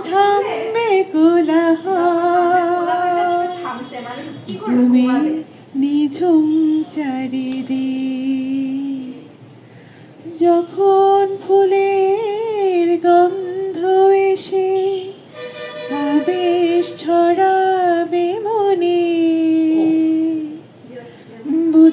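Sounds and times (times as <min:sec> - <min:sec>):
woman singing into microphone: 0:00.0 - 0:09.4, 0:10.2 - 0:15.1, 0:15.9 - 0:20.7, 0:21.4 - 0:21.9.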